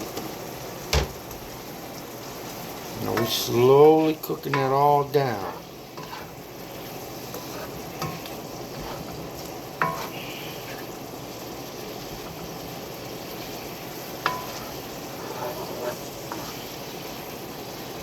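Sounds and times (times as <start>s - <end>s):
sauce sizzling in a skillet: 0.0s - 18.0s.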